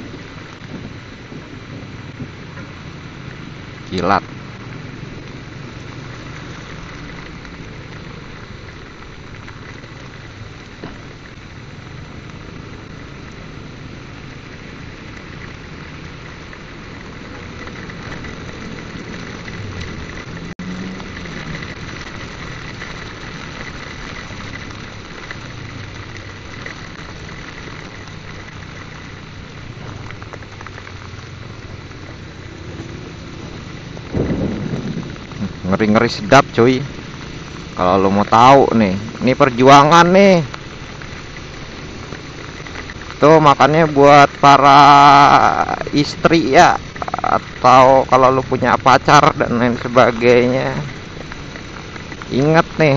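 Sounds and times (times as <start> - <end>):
heavy rain hissing: 0.0 - 52.9
motorcycle engine running: 0.0 - 52.9.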